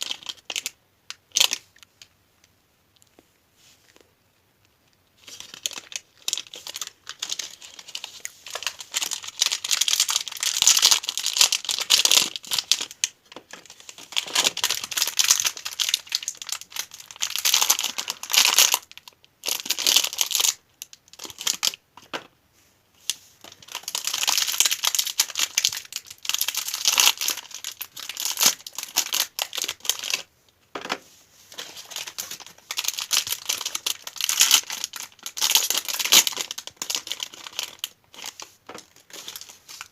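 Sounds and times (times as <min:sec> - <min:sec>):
sweet wrappers crinkling: 0:00.0 - 0:02.2, 0:04.7 - 0:21.8, 0:23.0 - 0:30.3, 0:31.5 - 0:39.9.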